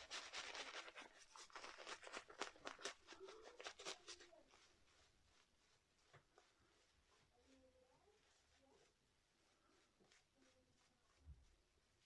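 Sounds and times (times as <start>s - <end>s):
shaving brush crackling lather: 0.0s - 12.0s.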